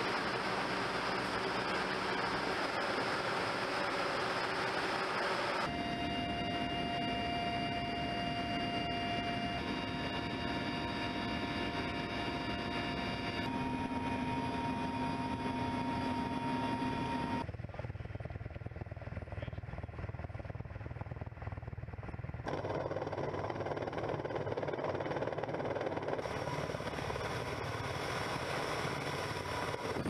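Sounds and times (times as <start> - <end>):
helicopter cabin rumble: 0.0 - 30.0
turbine and gearbox whine: 0.0 - 30.0.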